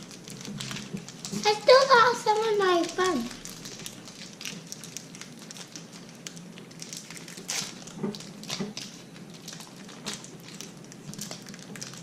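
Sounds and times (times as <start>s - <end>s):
plastic wrappers crinkling: 0.0s - 12.0s.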